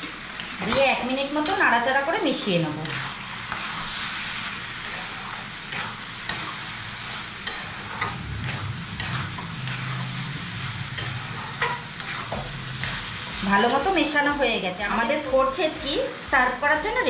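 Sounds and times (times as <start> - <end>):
metal spatula scraping a pan: 0.0 - 15.1
frying sizzle: 0.0 - 17.0.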